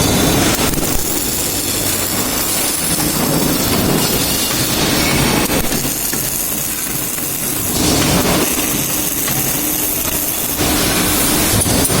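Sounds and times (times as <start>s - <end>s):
machine hum: 0.0s - 12.0s
welding arc hissing and crackling: 0.0s - 12.0s.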